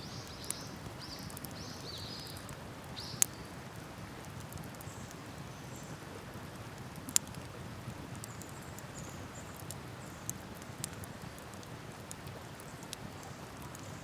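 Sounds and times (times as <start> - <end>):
wood fire crackling and popping: 0.0 - 5.2, 6.4 - 13.9.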